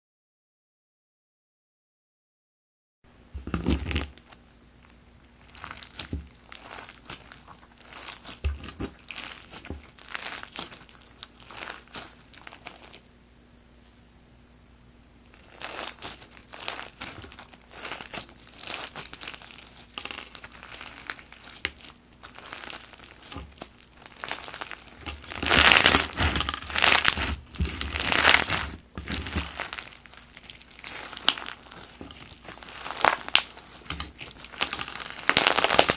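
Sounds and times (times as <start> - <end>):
slime beads crackling and popping: 3.4 - 13.1, 15.3 - 35.9.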